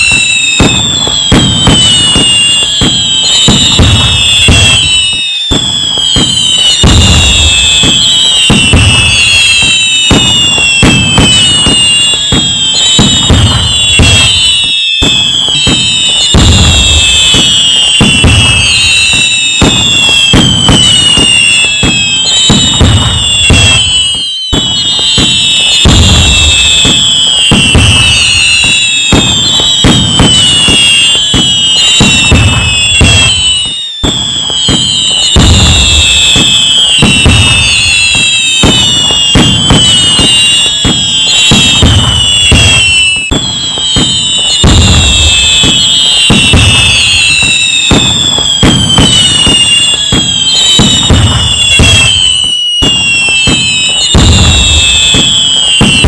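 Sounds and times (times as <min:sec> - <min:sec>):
crackling firework bangs: 0:00.0 - 0:56.0
deep firework booms: 0:00.0 - 0:56.0
whistling fireworks: 0:00.0 - 0:56.0.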